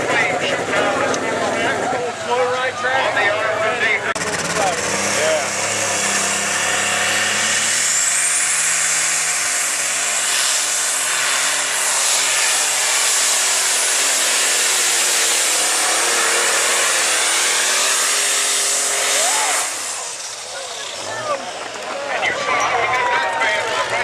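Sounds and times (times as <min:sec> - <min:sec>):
tractor engine at high revs: 0:00.0 - 0:24.0.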